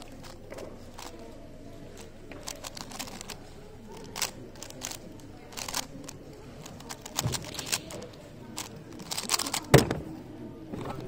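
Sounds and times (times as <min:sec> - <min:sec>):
plastic puzzle cube clicking: 0:00.0 - 0:01.2, 0:02.0 - 0:10.0.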